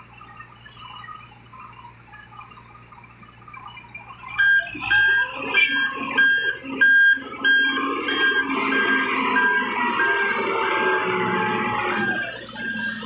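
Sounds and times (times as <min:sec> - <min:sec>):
engine noise: 0:00.0 - 0:13.0
truck reversing alarm beeping: 0:00.0 - 0:13.0.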